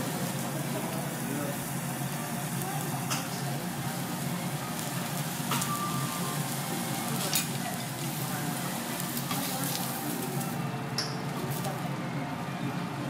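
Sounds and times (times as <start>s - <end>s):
prawns sizzling on a griddle: 0.0s - 12.0s.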